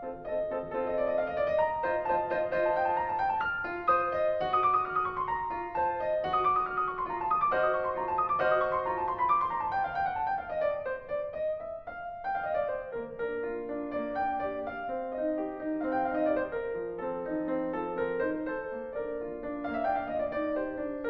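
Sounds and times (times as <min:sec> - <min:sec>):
classical piano music: 0:00.0 - 0:21.0.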